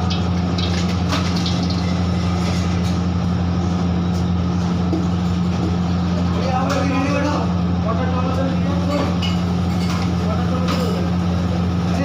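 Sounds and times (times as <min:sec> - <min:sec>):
loud machine hum: 0:00.0 - 0:12.0.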